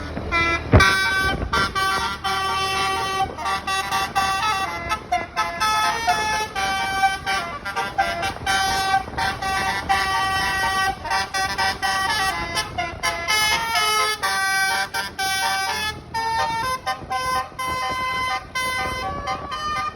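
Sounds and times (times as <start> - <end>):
multi-tone bus horn melody: 0.0 - 19.9.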